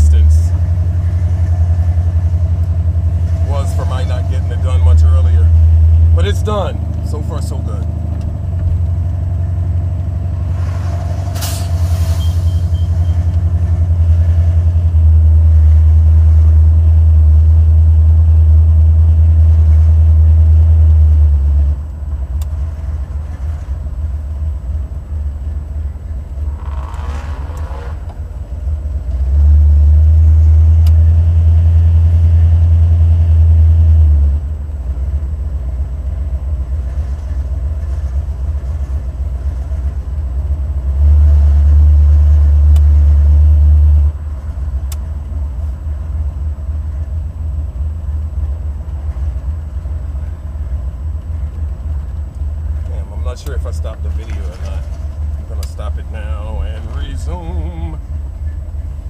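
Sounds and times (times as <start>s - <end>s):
car engine drone: 0.0s - 59.0s.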